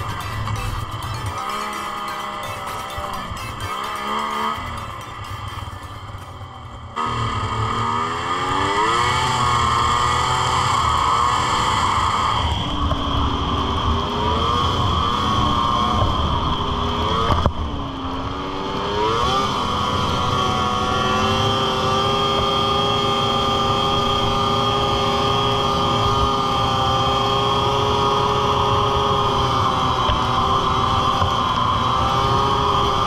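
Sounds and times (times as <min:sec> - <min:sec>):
snowmobile engine accelerating: 0:00.0 - 0:33.0.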